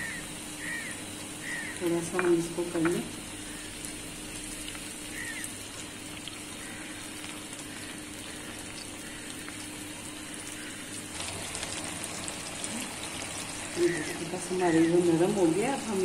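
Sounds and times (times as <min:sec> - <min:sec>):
low steady hum: 0:00.0 - 0:16.0
onion and tomato sizzling: 0:00.0 - 0:16.0.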